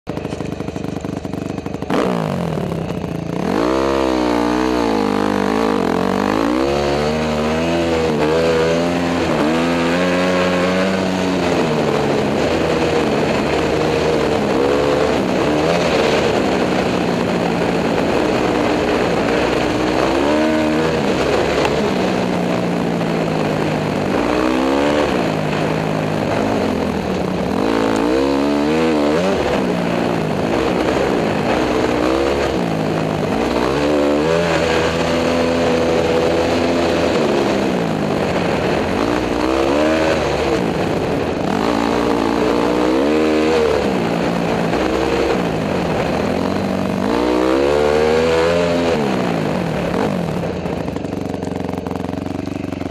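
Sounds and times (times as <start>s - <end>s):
dirt bike engine revving: 0.1s - 52.9s.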